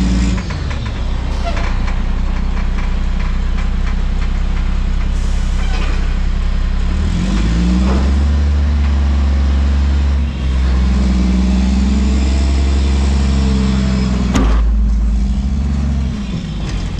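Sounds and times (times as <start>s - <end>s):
garbage truck diesel engine revving: 0.0s - 16.9s.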